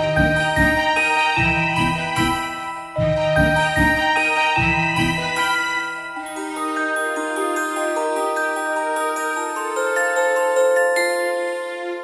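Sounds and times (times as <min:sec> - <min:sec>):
melody of held high notes: 0:00.0 - 0:12.0.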